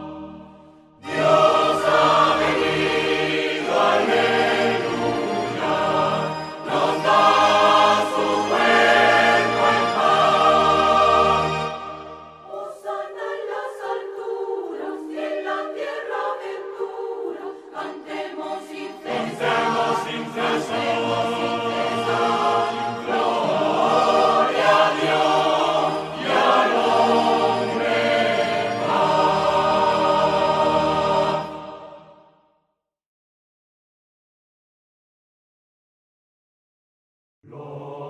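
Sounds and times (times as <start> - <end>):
mixed choir singing: 0.0 - 32.3, 37.5 - 38.0.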